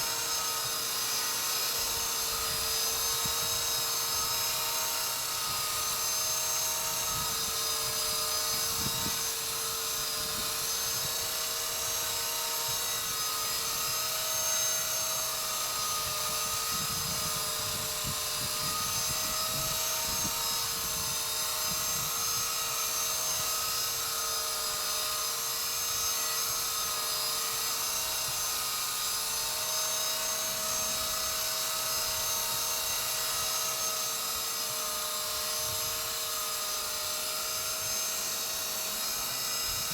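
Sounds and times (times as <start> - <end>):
rc helicopter whining: 0.0 - 39.9.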